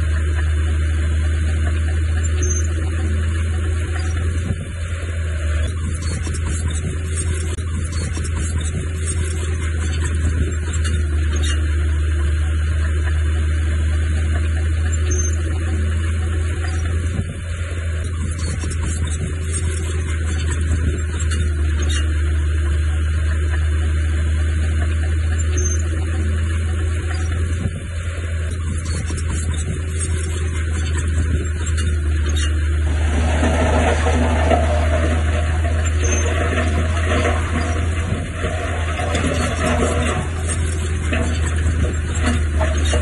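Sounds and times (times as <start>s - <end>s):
diesel engine droning: 0.0s - 43.0s.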